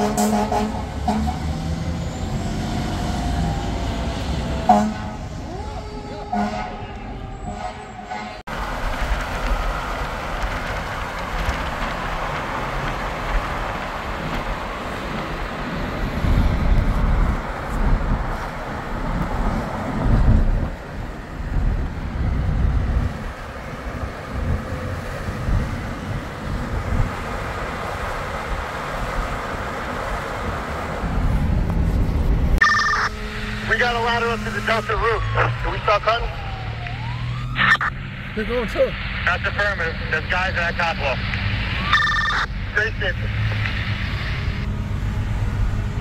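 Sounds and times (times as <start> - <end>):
low traffic rumble: 0.0 - 46.0.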